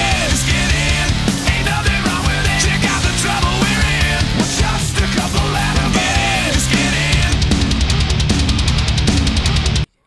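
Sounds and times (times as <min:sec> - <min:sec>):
loud rock music: 0:00.0 - 0:09.9.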